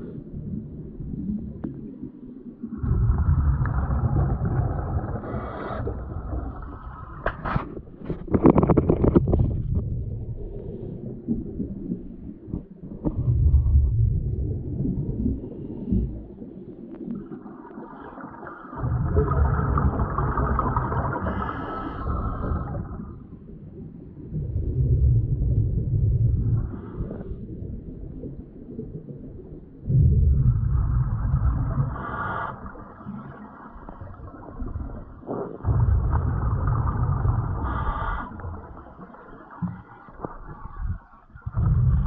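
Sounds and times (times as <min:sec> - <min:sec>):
scuba exhaust bubbles rumbling: 0:00.0 - 0:42.0.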